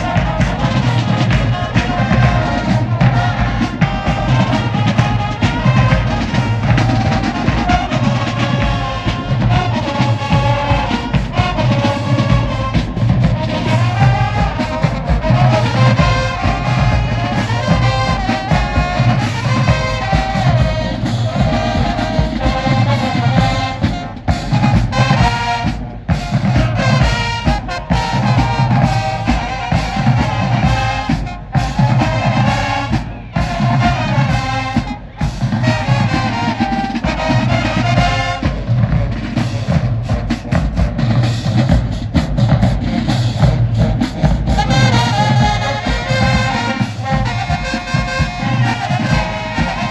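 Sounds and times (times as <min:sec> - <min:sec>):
marching band playing: 0:00.0 - 0:49.9.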